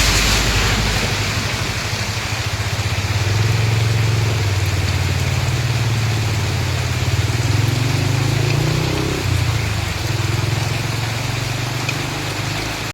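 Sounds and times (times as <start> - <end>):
vehicle engine idling: 0.0 - 11.9
heavy rain hissing: 0.0 - 12.9.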